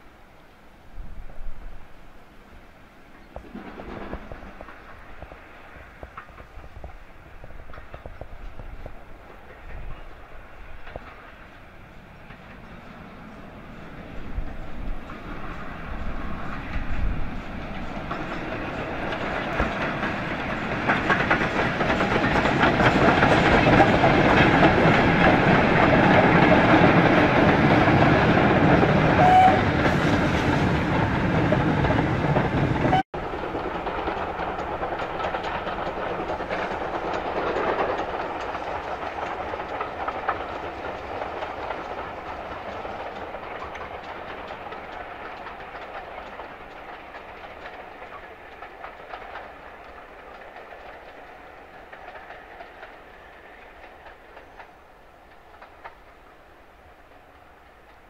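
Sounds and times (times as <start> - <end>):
distant steam train running: 0.0 - 58.0
steam locomotive passing: 0.0 - 58.0.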